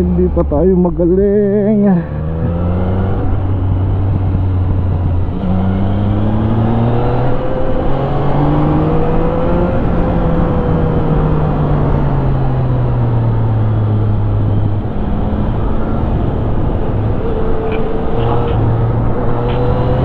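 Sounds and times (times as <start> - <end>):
wind and road noise: 0.0 - 20.0
motorcycle engine revving: 1.6 - 20.0.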